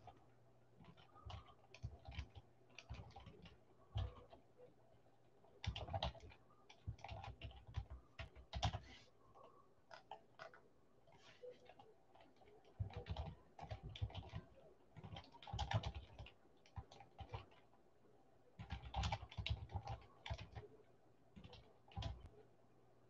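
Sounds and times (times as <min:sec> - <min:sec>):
keyboard typing: 0:00.8 - 0:04.7, 0:05.5 - 0:17.8, 0:18.6 - 0:20.8, 0:21.4 - 0:22.3.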